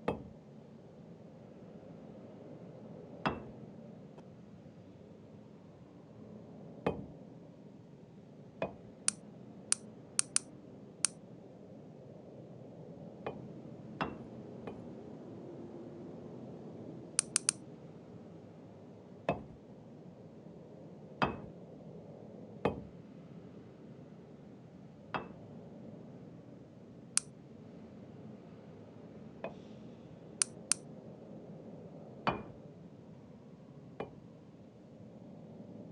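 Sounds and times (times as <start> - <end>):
low steady hum: 0.0 - 35.9.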